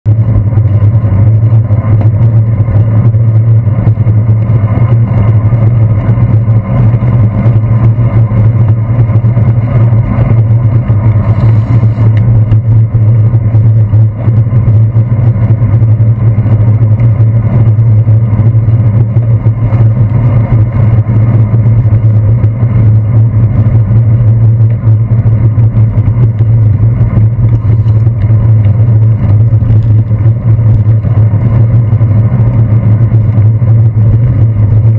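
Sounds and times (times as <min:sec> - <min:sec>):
bicycle road vibration: 0:00.0 - 0:34.9
wind rumble: 0:00.0 - 0:34.9.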